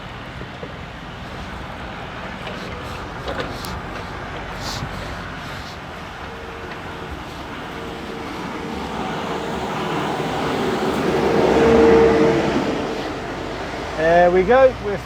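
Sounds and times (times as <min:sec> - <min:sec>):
steady whine: 0:00.0 - 0:14.5
lorry engine: 0:00.0 - 0:15.0
road noise: 0:00.0 - 0:15.0.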